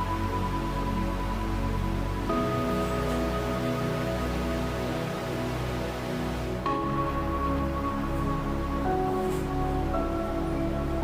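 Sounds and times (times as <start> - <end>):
soft synthesizer chords: 0.0 - 11.0.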